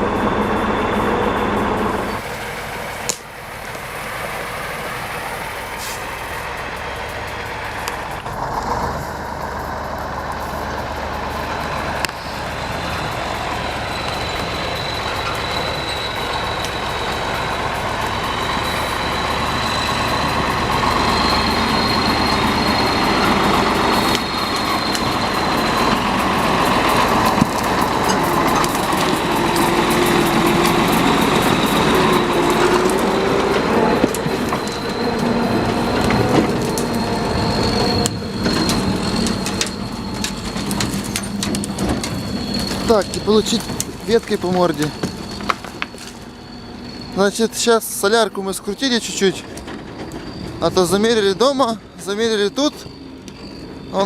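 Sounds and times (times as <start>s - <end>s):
tractor diesel engine running: 0.0s - 54.0s
thin high whine: 9.0s - 54.0s.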